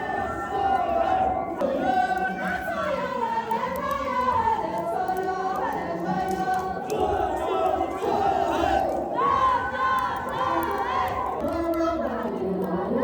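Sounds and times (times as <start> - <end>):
crowd noise: 0.0 - 13.0
crowd singing in unison: 0.0 - 13.0.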